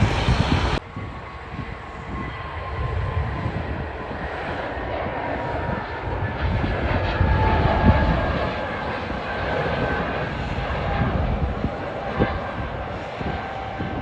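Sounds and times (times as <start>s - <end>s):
faint high jet whine: 0.0s - 14.0s
jet engines rumbling: 0.0s - 14.0s.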